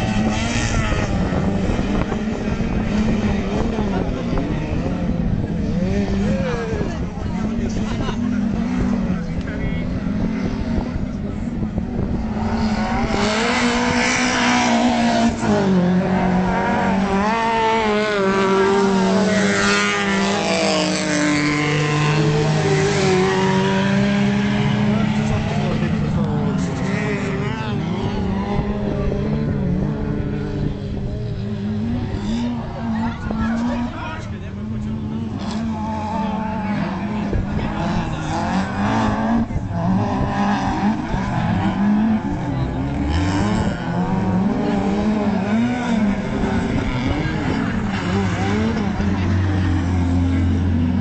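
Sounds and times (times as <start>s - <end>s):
racing car engines revving: 0.0s - 51.0s.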